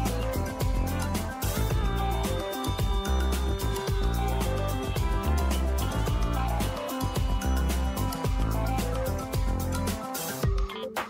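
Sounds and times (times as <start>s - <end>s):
held low bass notes: 0.0s - 10.0s
background music with steady beat: 0.0s - 11.0s.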